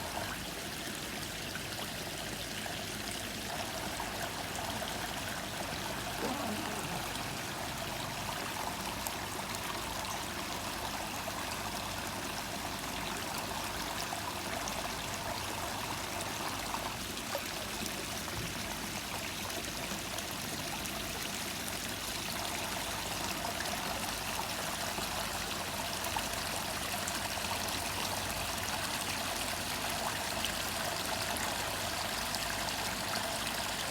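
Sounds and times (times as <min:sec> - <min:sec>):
small waterfall splashing into pond: 0:00.0 - 0:33.9.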